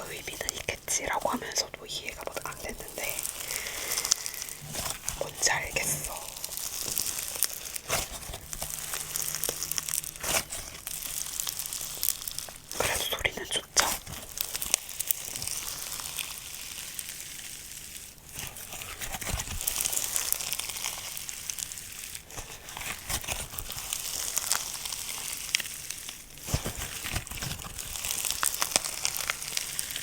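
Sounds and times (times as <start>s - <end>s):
slime squeezed by hand crackling: 0.0s - 30.0s.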